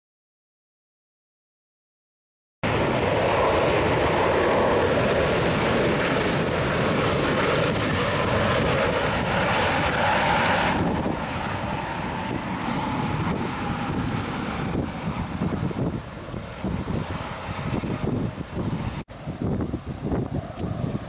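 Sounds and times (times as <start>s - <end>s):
jet engines rushing: 2.6s - 21.0s.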